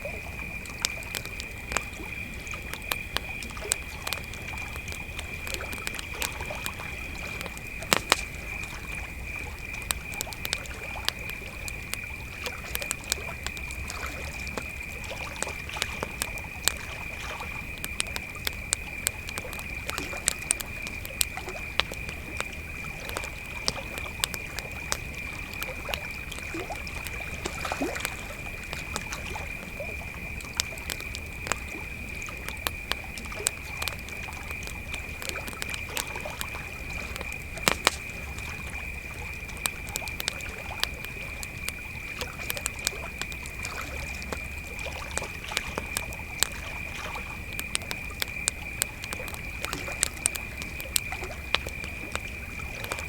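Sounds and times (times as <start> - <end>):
campfire crackling and popping: 0.0 - 53.0
crickets chirping: 0.0 - 53.0.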